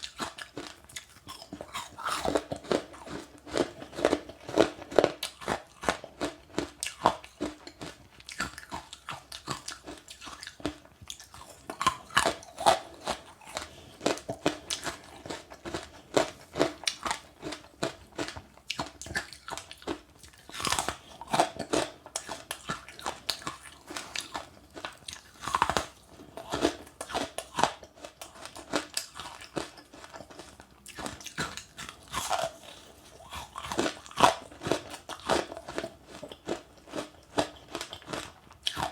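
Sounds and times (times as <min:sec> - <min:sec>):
chewing and crunching fruit seeds: 0:00.0 - 0:38.9.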